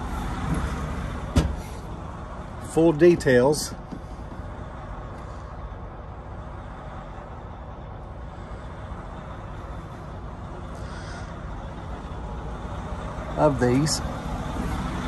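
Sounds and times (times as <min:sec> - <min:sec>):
diesel truck idling: 0:00.0 - 0:15.0.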